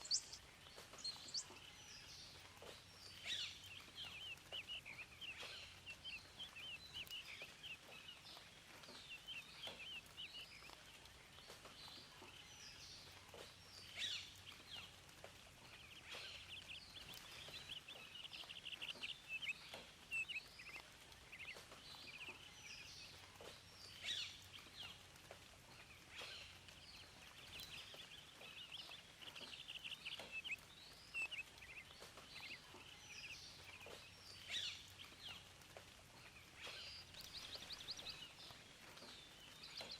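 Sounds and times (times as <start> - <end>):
faint background hiss: 0.0 - 39.9
small birds chirping and twittering: 0.0 - 39.9.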